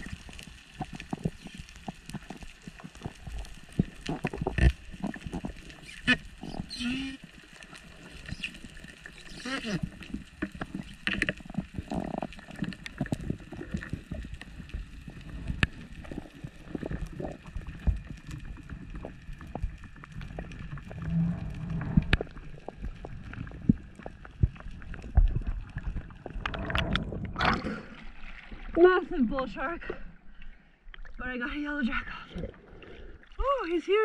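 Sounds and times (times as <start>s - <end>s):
water sloshing and gurgling: 0.0s - 34.0s.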